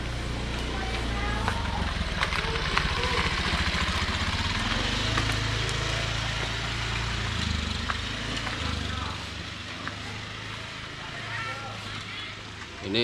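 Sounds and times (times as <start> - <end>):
small motorcycle engine running: 0.0 - 12.2
wind and road noise: 0.0 - 13.0.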